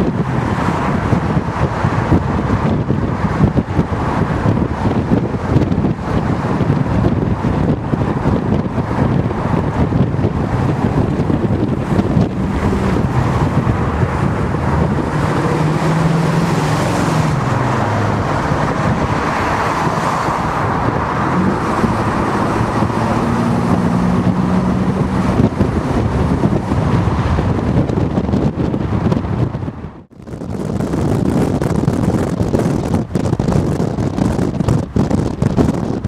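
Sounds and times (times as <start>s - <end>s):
wind and road rush: 0.0s - 36.0s.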